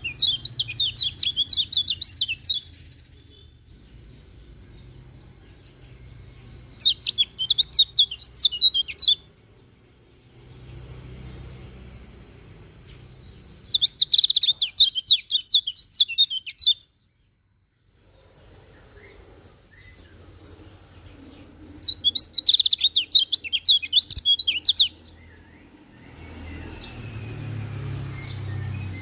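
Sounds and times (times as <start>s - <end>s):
faint low hum: 0.0s - 14.7s, 16.8s - 29.0s
bird twittering song: 0.0s - 29.0s.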